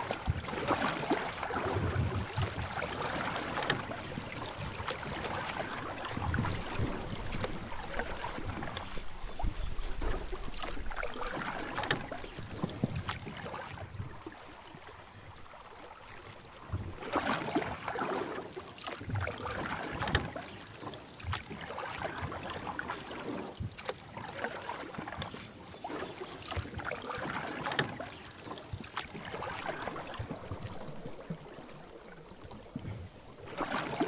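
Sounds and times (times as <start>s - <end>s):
paddle splashing in water: 0.0s - 34.0s.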